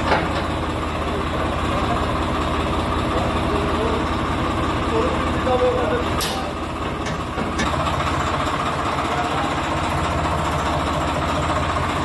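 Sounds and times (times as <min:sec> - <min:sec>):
diesel tractor engine idling: 0:00.0 - 0:12.0.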